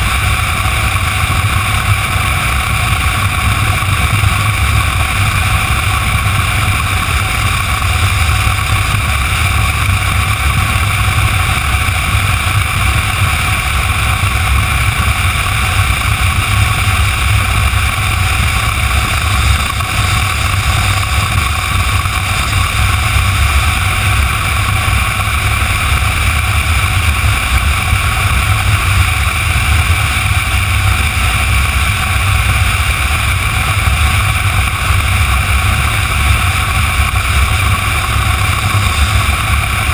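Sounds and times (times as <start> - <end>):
motorcycle engine and tyre drone: 0.0 - 39.9
wind rushing over microphone: 0.0 - 39.9.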